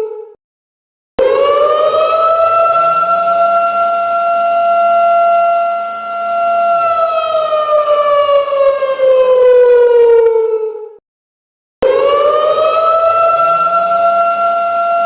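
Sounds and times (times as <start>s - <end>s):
siren sliding in pitch: 1.2s - 11.0s, 11.8s - 15.0s.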